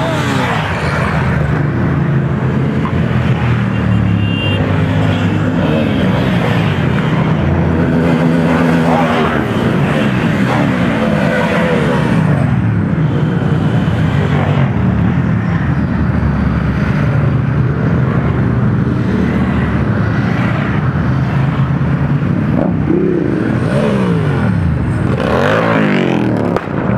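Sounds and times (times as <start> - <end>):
motorcycles riding past: 0.0 - 26.9.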